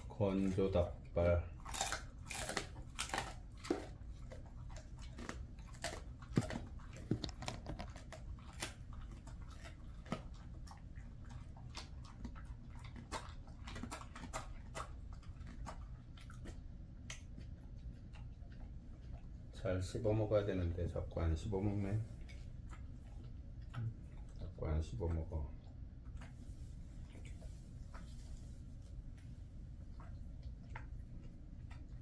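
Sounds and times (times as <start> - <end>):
dog crunching and chewing: 0.0 - 32.0.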